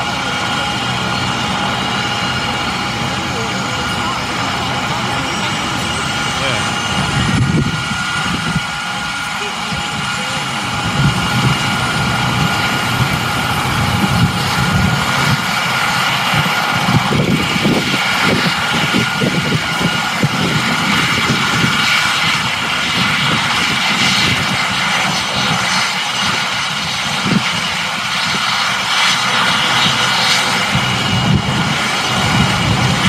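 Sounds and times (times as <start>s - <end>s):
helicopter rotor blades beating: 0.0s - 33.0s
helicopter turbine whine: 0.0s - 33.0s.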